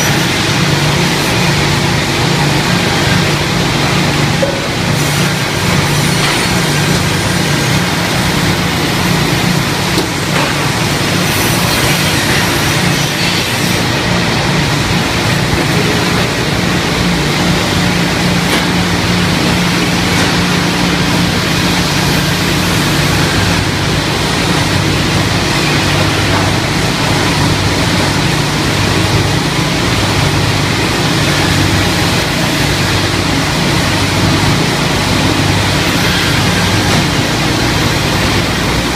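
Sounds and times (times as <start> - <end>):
board ripping machine running: 0.0 - 38.9.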